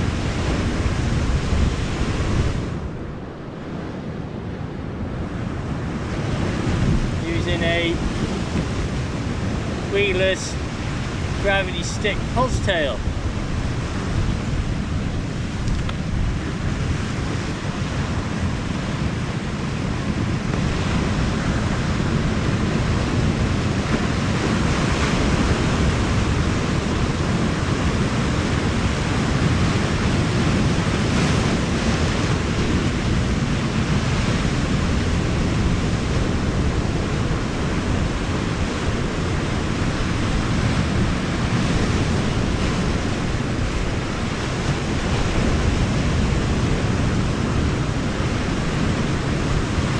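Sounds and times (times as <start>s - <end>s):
surf washing against rocks: 0.0s - 49.9s
wind buffeting microphone: 0.0s - 49.9s.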